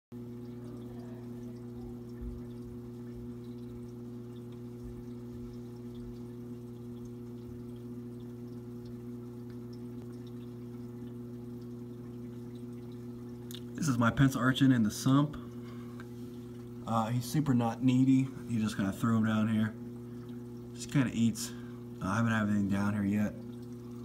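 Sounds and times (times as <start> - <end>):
pump humming: 0.1 - 24.0
water trickling and dripping: 0.1 - 24.0.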